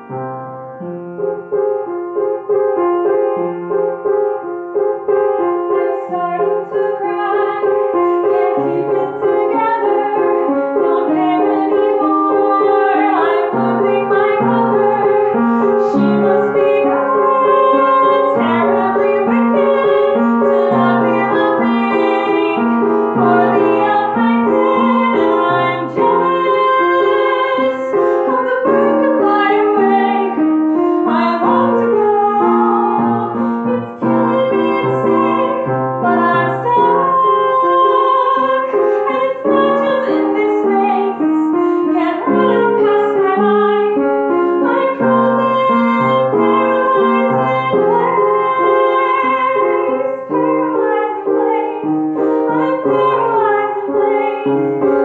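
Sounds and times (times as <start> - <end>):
upright piano: 0.0 - 55.0
woman singing: 5.3 - 55.0.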